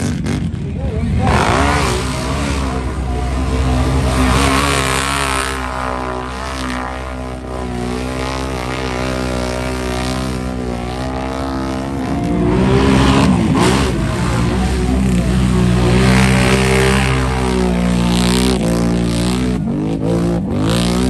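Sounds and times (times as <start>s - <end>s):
quad engine at high revs: 0.0s - 21.0s.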